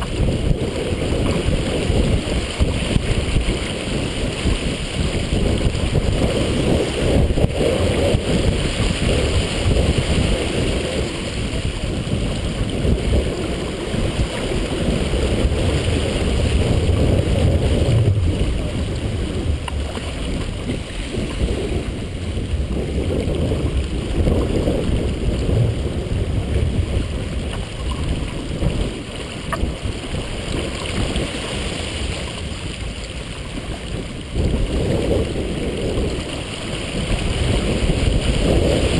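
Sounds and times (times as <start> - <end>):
water rushing past boat hull: 0.0 - 38.9
wind buffeting microphone: 0.0 - 38.9.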